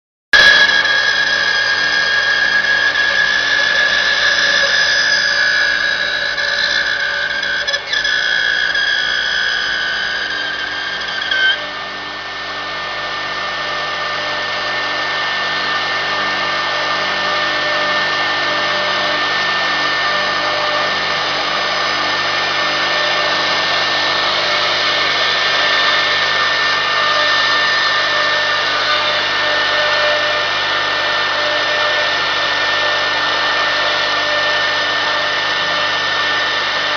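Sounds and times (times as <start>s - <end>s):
router spindle whining: 0.4s - 36.9s.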